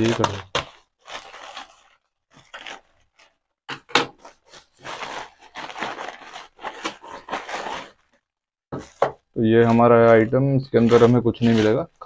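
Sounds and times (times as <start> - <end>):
plastic bag and bubble wrap crinkling: 0.0 - 12.0.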